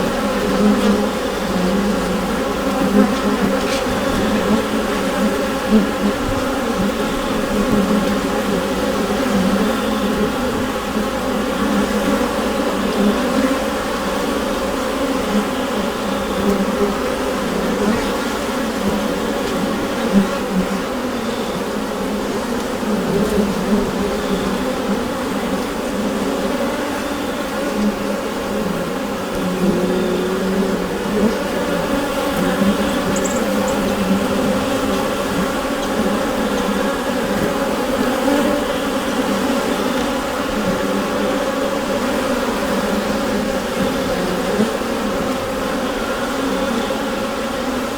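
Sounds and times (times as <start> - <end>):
bees humming in a hive: 0.0 - 47.9.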